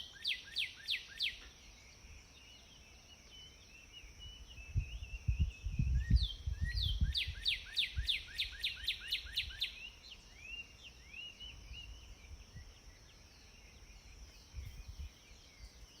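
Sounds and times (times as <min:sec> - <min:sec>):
bird song: 0:00.0 - 0:16.0.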